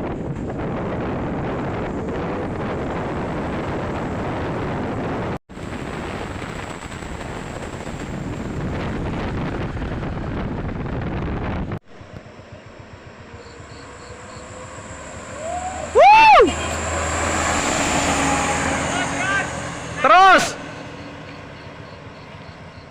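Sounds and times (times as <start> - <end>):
wind buffeting microphone: 0.0 - 20.0
road and vehicle noise: 0.0 - 22.9.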